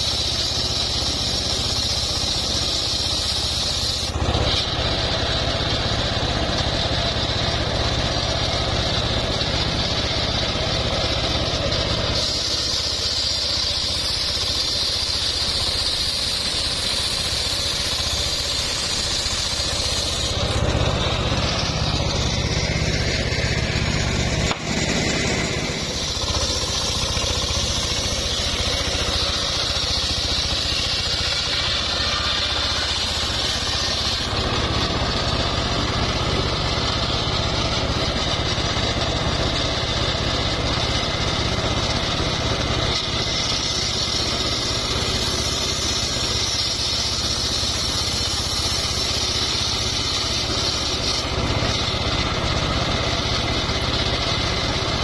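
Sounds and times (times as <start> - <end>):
circular saw blade cutting wood: 0.0 - 55.0
saw motor drone: 0.0 - 55.0.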